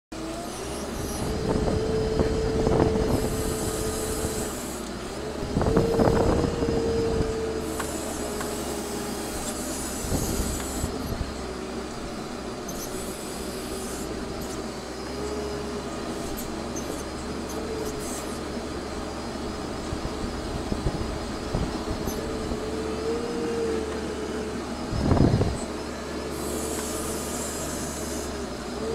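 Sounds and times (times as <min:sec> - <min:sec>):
loader engine whining: 0:00.1 - 0:28.9.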